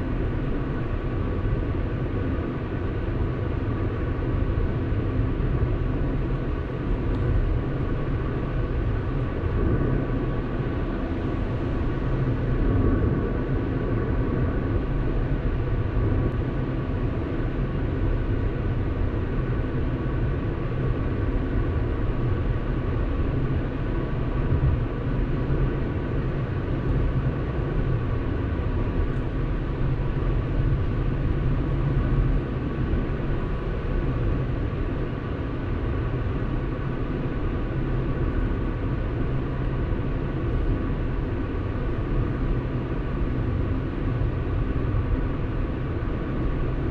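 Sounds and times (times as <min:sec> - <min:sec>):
faint steady whine: 0:00.0 - 0:46.9.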